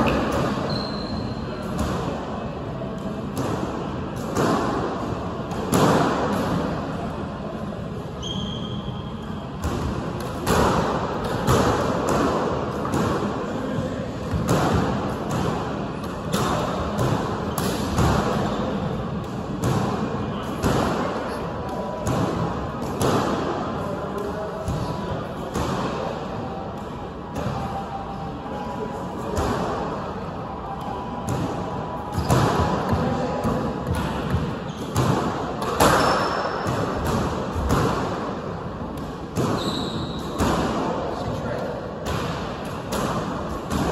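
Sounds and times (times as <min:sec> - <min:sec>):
squash ball smacks echoing: 0:01.6 - 0:02.4, 0:03.0 - 0:06.9, 0:09.6 - 0:27.8, 0:29.2 - 0:30.0, 0:30.8 - 0:43.9.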